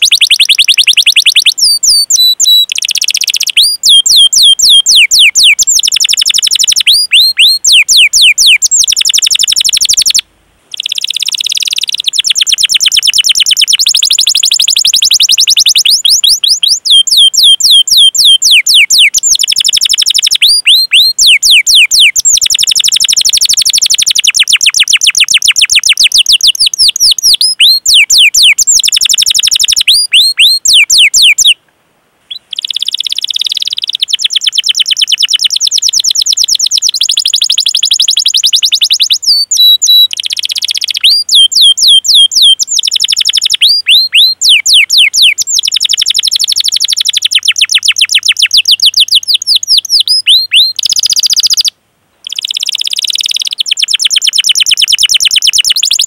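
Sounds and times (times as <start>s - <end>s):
canary singing trills: 0.0s - 31.6s, 32.3s - 56.0s.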